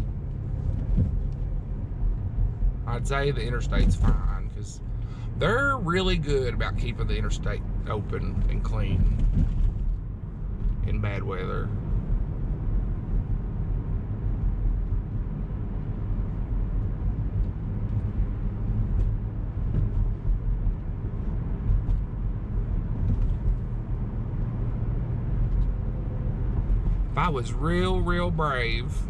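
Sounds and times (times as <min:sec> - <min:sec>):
car engine inside cabin: 0:00.0 - 0:29.0
tyre road noise: 0:00.0 - 0:29.0.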